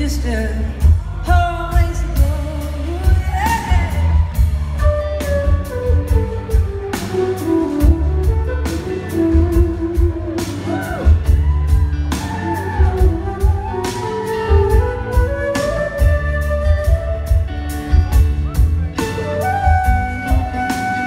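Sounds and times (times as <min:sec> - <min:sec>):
blues-rock band playing: 0:00.0 - 0:21.0
electric bass: 0:00.0 - 0:21.0
sliding lead melody: 0:00.7 - 0:21.0
steady drum beat: 0:00.8 - 0:21.0.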